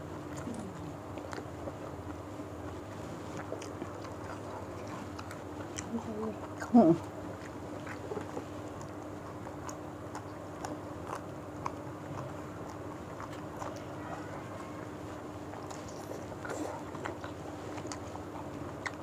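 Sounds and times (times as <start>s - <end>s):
faint steady hum: 0.0s - 19.0s
chewing and mouth smacks: 0.2s - 19.0s.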